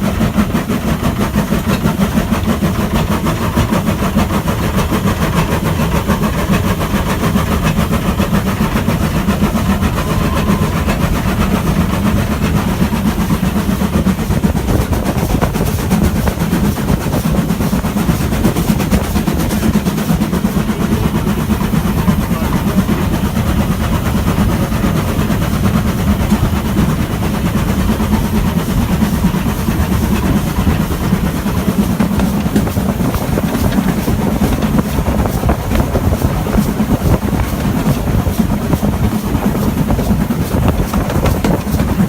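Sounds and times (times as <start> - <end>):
locomotive running: 0.0 - 42.0.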